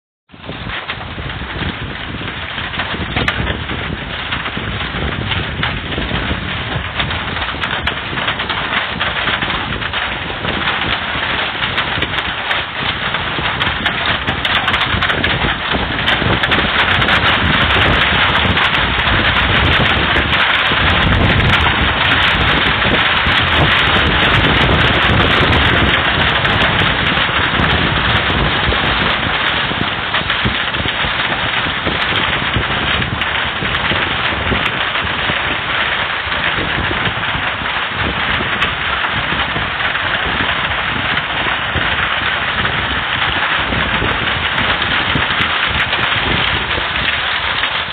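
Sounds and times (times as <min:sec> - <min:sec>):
heavy rain and hail: 0:00.3 - 0:47.9
wind buffeting microphone: 0:00.3 - 0:47.9.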